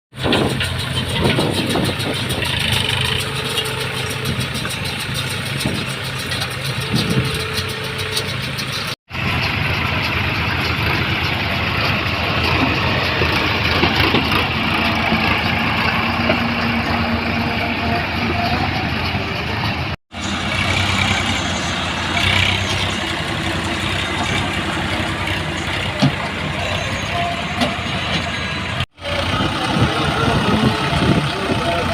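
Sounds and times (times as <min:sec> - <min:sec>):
tractor engine running: 0:00.1 - 0:31.9.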